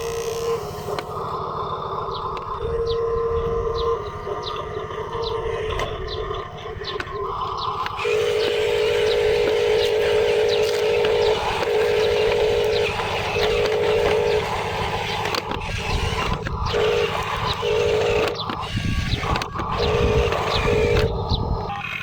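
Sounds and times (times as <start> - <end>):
busy outdoor background: 0.0 - 22.0
small electric motor whining: 0.0 - 22.0.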